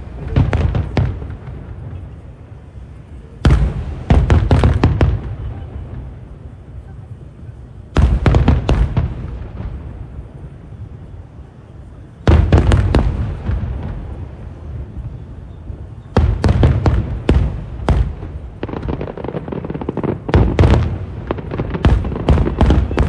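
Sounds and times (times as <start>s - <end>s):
fireworks bursting with sharp bangs: 0.0s - 23.0s.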